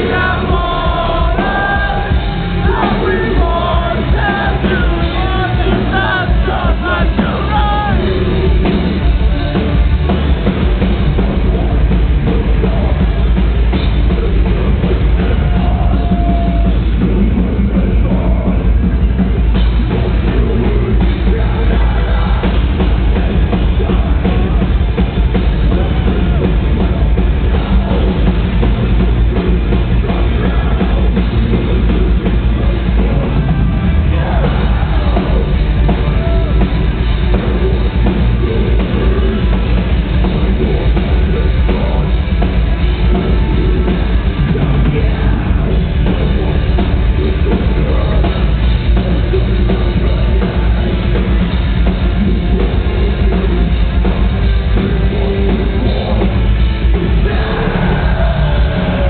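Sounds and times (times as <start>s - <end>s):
distorted electric guitars: 0.0s - 59.0s
pounding drum kit: 0.0s - 59.0s.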